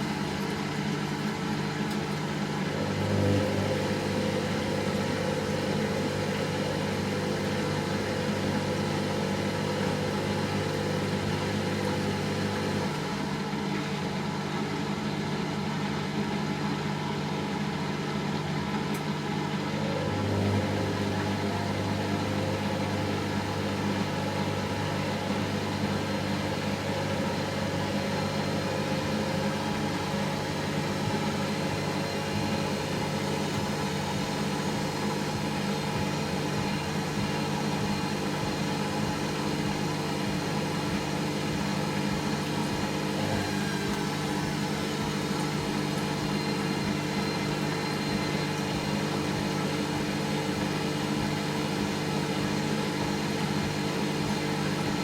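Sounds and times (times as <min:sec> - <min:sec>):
washing machine spinning: 0:00.0 - 0:55.0.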